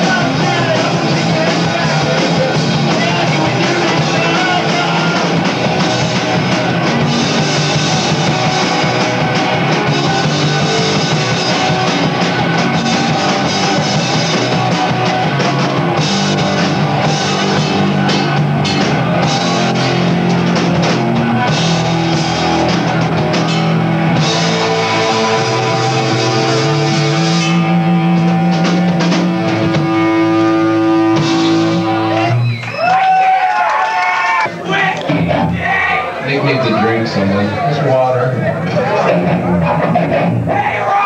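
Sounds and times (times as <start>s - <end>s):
live rock band playing: 0.0s - 33.4s, 34.4s - 41.0s.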